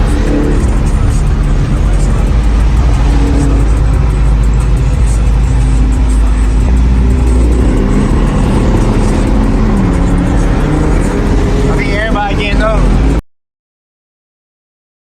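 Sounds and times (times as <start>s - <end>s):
car engine running: 0.0s - 13.2s
music: 0.0s - 13.2s.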